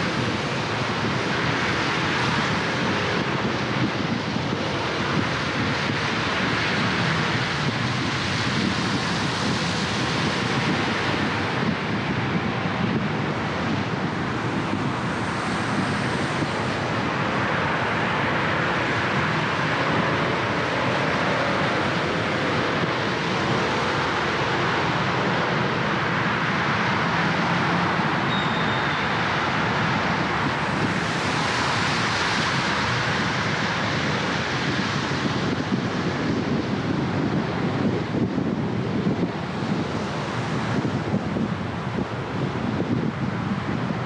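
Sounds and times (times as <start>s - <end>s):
surrounding traffic: 0.0s - 44.0s.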